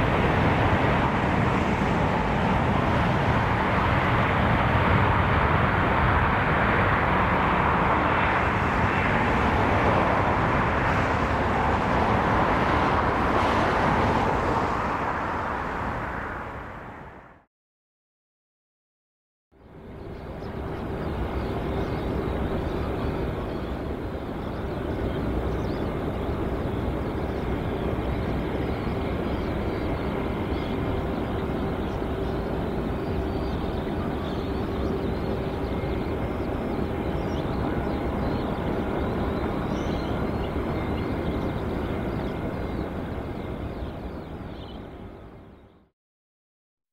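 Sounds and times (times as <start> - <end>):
jet engines rumbling: 0.0 - 17.5, 19.6 - 45.7.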